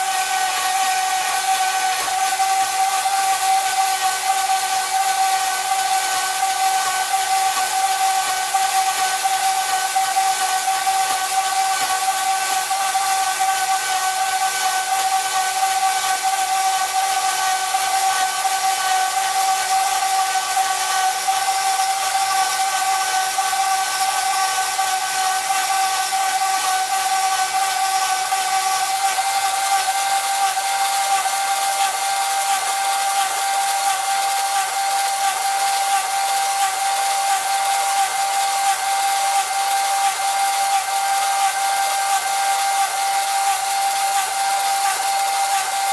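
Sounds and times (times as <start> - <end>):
bandsaw whining: 0.0 - 45.9
saw cutting metal hiss: 0.0 - 45.9.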